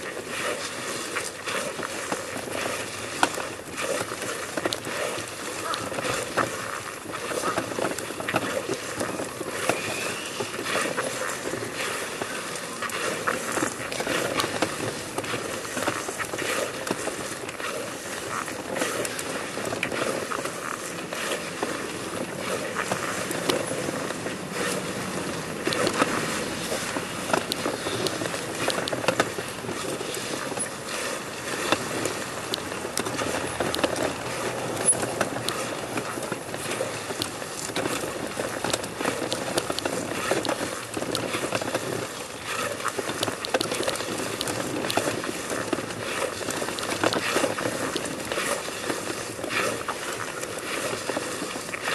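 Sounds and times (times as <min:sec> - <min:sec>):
body scraping on stone paving: 0:00.0 - 0:51.9.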